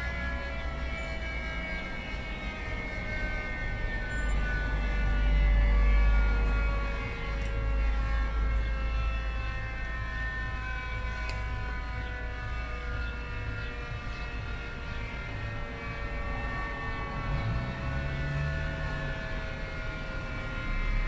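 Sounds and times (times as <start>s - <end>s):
flood warning siren: 0.0s - 21.0s
low rumble: 0.0s - 21.0s.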